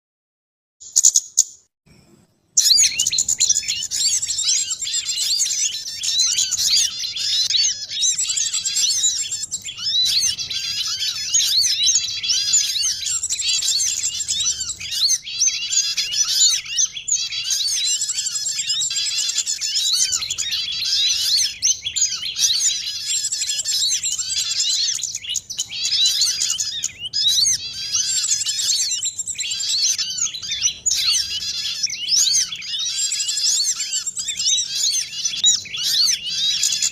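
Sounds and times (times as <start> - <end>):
chorus of songbirds chirping: 0.8 - 36.9.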